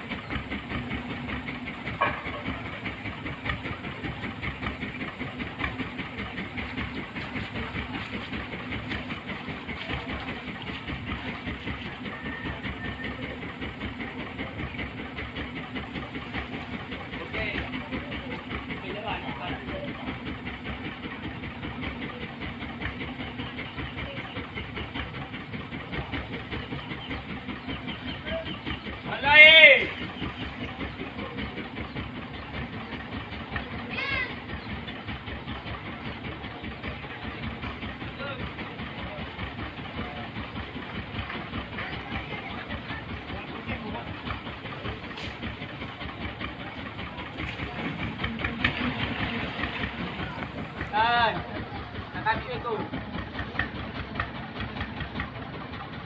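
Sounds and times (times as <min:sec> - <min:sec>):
engine running with low pulsing: 0:00.0 - 0:56.0.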